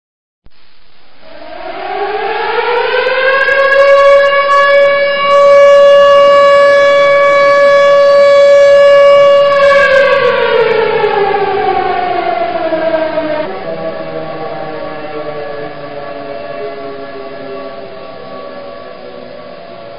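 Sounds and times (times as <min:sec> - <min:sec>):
air-raid siren wailing: 0:01.1 - 0:19.9.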